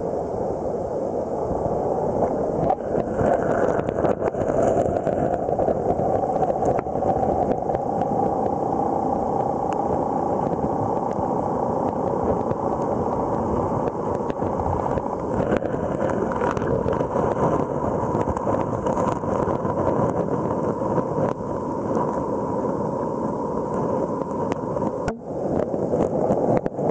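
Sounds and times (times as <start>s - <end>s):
underwater seawater rushing: 0.0s - 26.9s.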